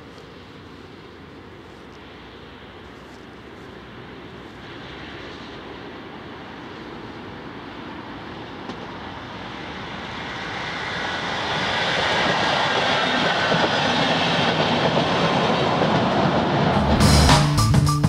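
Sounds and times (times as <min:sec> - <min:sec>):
diesel train approaching: 0:00.0 - 0:18.0.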